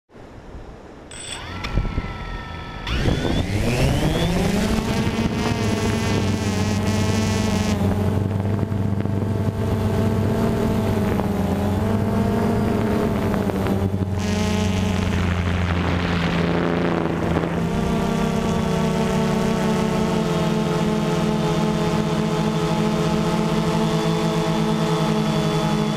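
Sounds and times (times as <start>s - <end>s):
drone propellers buzzing: 1.1s - 25.9s.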